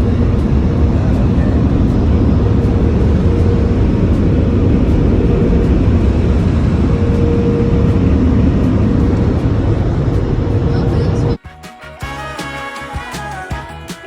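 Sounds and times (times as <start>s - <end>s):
car wash rushing drone: 0.0s - 11.4s
faint hum: 0.0s - 11.4s.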